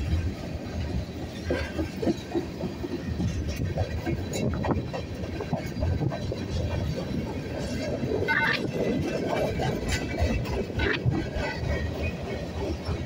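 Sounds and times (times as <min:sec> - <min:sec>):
freight train wheels rumbling on rail: 0:00.0 - 0:13.0
train wheels clicking and clacking: 0:00.0 - 0:13.0.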